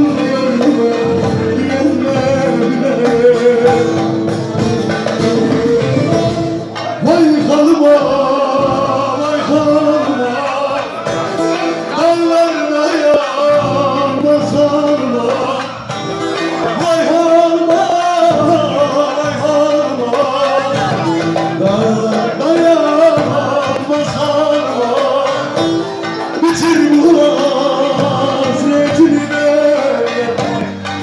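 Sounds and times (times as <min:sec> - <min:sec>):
person singing folk song: 0:00.0 - 0:31.0
plucked strings: 0:00.0 - 0:31.0.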